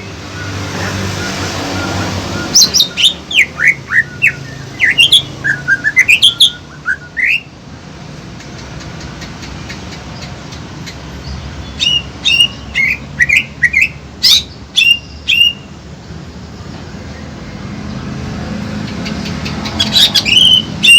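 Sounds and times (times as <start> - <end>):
songbirds chirping: 0.0 - 20.9.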